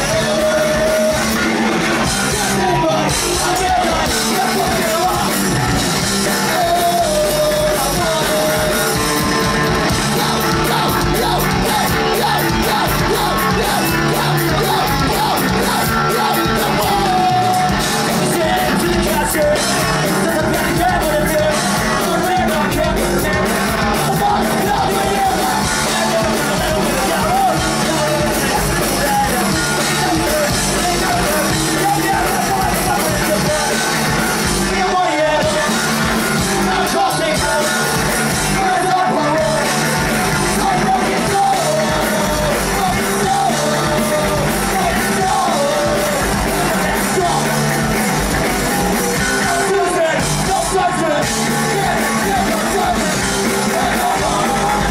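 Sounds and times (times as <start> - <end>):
bass guitar: 0.0 - 54.9
drums: 0.0 - 54.9
electric guitars: 0.0 - 54.9
shouted singing: 0.0 - 54.9.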